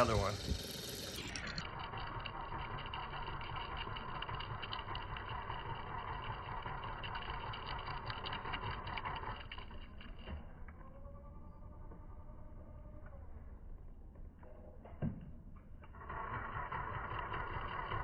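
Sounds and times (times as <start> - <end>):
motor running with crackling: 0.0 - 13.4, 15.8 - 18.0.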